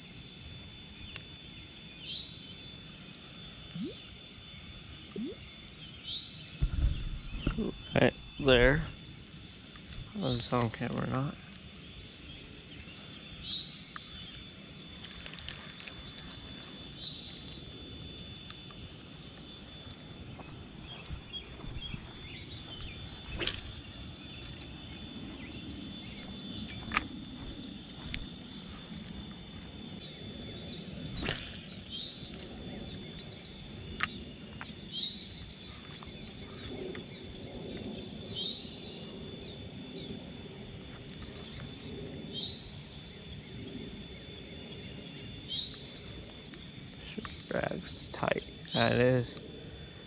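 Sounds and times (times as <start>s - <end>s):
steady high thin whine: 2.6s - 49.6s.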